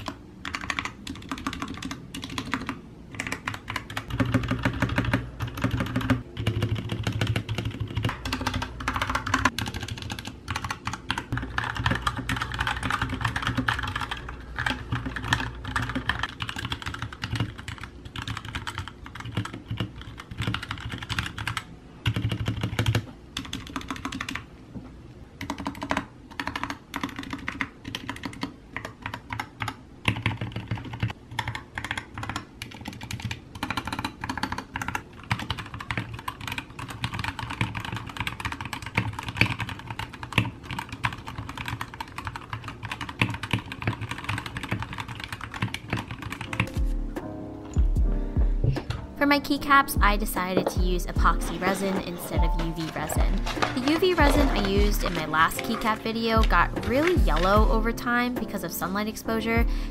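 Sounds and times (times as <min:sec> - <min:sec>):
fast typing on mechanical keyboard: 0:00.0 - 0:24.5, 0:25.4 - 0:46.7, 0:49.6 - 0:59.9.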